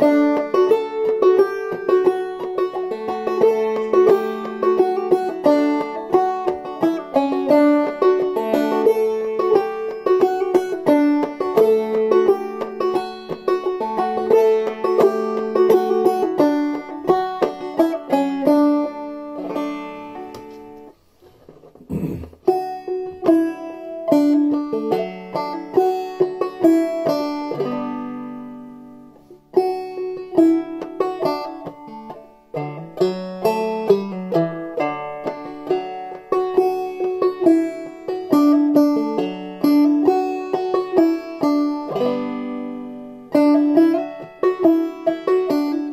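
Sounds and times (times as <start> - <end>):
banjo picking and strumming: 0.0 - 45.9.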